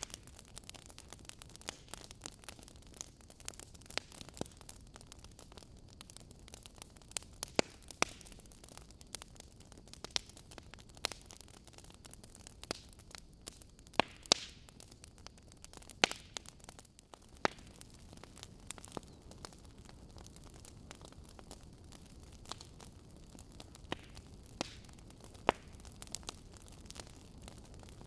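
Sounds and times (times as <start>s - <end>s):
logs crackling and popping: 0.0s - 28.0s
soft steady fire hiss: 0.0s - 28.0s.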